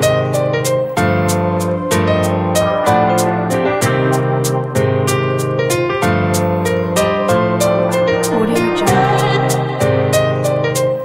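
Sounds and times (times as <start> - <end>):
held chords over steady beat: 0.0 - 11.0.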